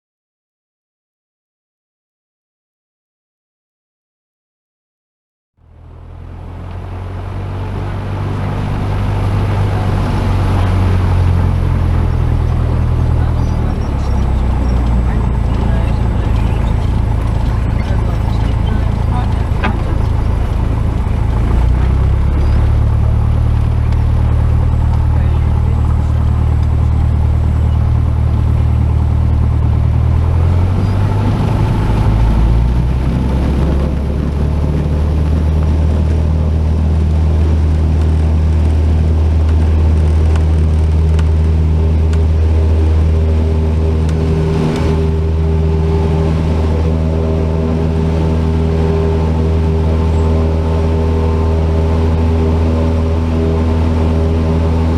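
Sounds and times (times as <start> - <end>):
propeller plane engine droning: 5.6 - 54.9.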